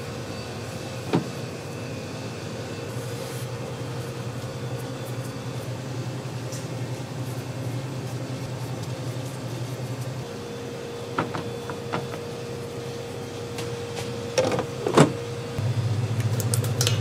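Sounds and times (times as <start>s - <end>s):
low hum of kitchen machinery: 0.0s - 17.0s.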